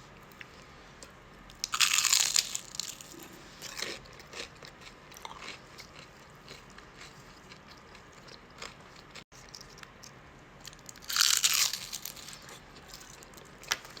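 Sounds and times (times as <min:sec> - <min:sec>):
chewing crispy fried food: 0:01.5 - 0:14.0.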